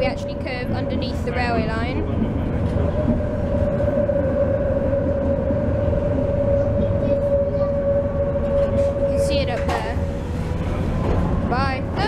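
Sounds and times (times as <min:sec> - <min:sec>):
steady high tone: 0:00.0 - 0:10.9
tram low rumble: 0:00.0 - 0:12.0.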